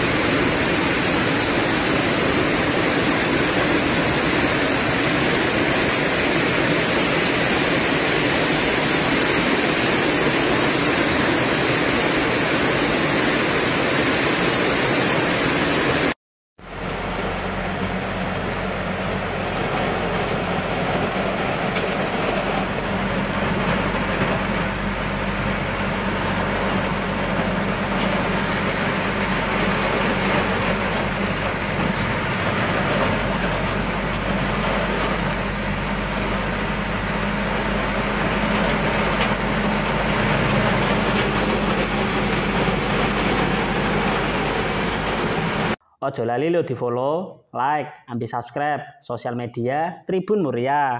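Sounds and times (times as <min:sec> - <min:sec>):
vehicle engine humming: 0:00.0 - 0:13.0, 0:16.6 - 0:45.8
heavy rain and rushing water: 0:00.0 - 0:45.8.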